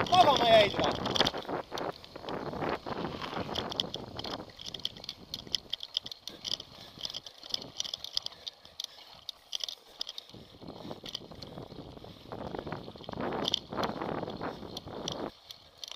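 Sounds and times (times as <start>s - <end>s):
bike rattling clicks: 0.0s - 15.9s
wind and tyre rumble: 0.0s - 15.9s.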